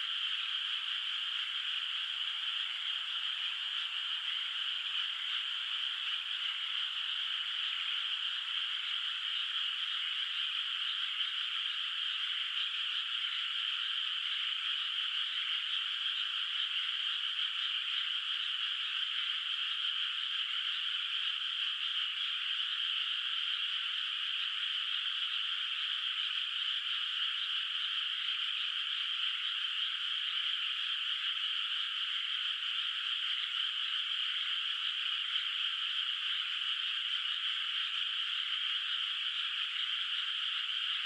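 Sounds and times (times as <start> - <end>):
chorus of frogs calling: 0.0 - 41.0.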